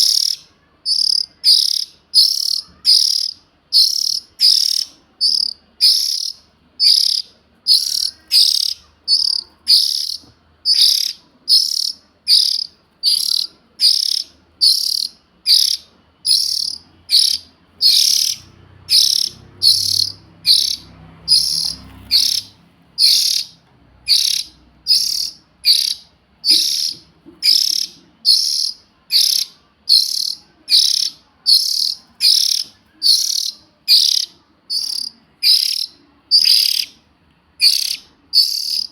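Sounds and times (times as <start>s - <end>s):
bird chick chirping: 0.0s - 37.0s, 37.6s - 38.9s.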